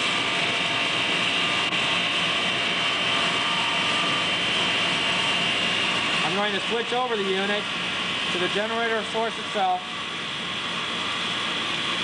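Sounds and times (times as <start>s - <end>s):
electric motor hum with whine: 0.0s - 12.0s.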